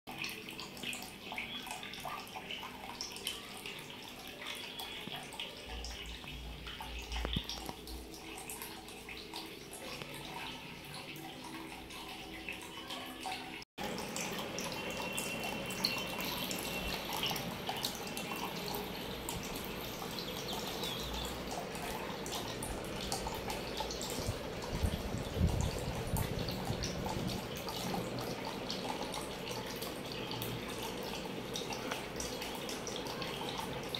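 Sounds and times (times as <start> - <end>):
water trickling into aquarium: 0.1 - 33.9.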